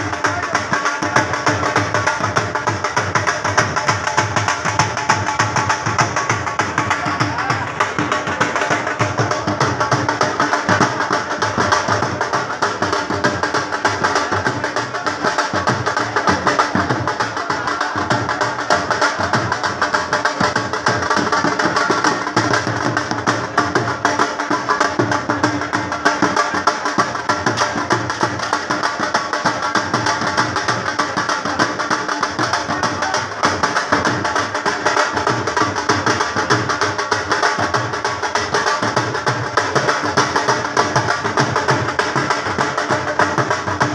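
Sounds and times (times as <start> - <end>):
drum beaten in steady rhythm: 0.0 - 43.9.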